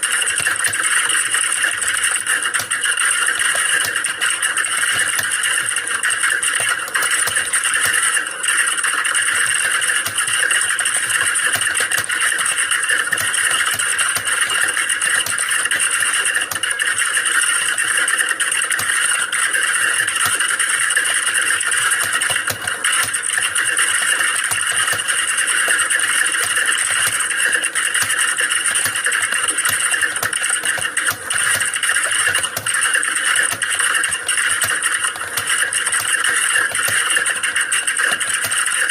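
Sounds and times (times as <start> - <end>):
many keyboards typing: 0.0 - 38.9.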